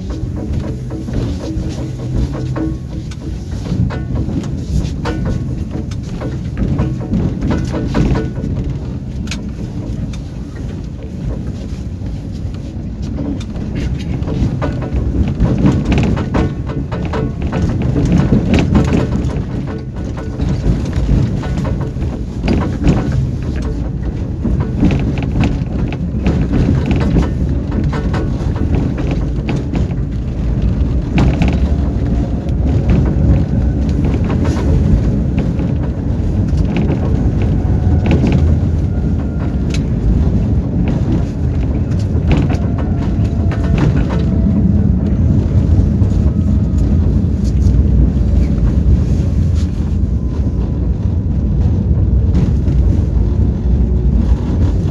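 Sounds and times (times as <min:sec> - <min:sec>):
knocks and clicks: 0:00.0 - 0:54.9
tram wheels rumbling on rails: 0:00.0 - 0:54.9.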